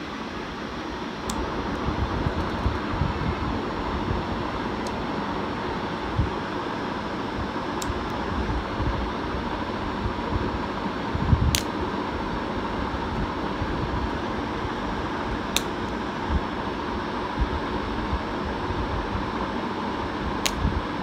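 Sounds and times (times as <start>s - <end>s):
steady fan-like noise: 0.0s - 21.0s.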